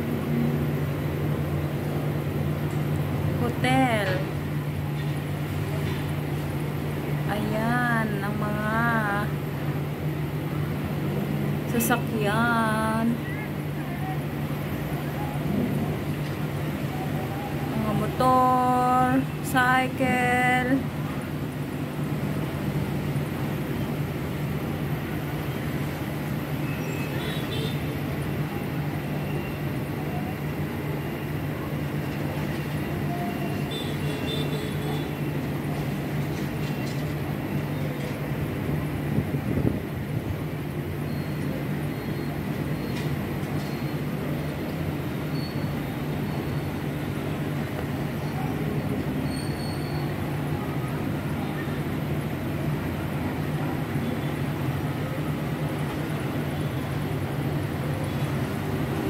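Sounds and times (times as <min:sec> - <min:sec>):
city traffic hum: 0:00.0 - 0:59.0.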